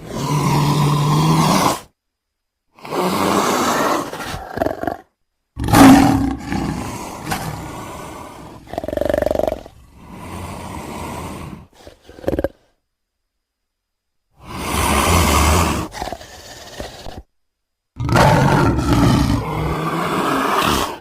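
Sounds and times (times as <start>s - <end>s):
big cat roars and snarls: 0.0s - 1.9s, 2.8s - 12.6s, 14.4s - 17.3s, 18.0s - 21.0s.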